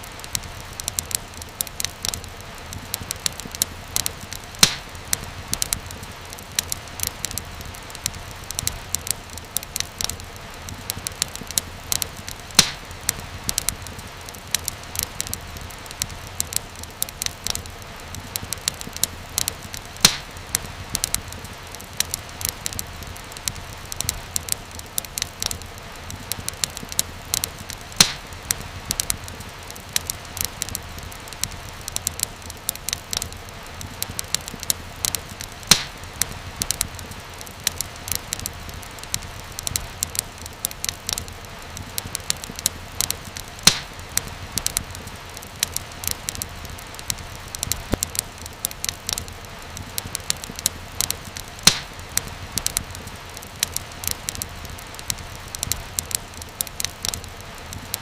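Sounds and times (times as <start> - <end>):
fire crackling in fireplace: 0.0 - 58.0
loud fire pops: 0.0 - 58.0.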